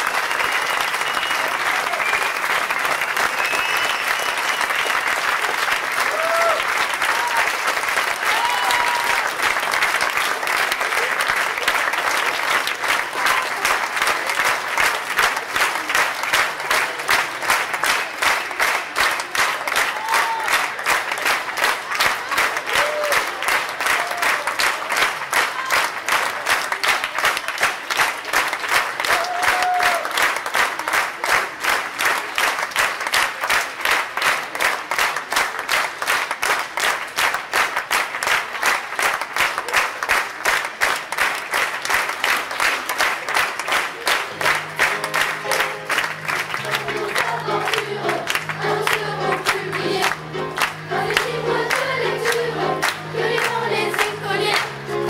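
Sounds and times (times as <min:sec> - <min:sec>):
audience clapping in rhythm: 0:00.0 - 0:55.0.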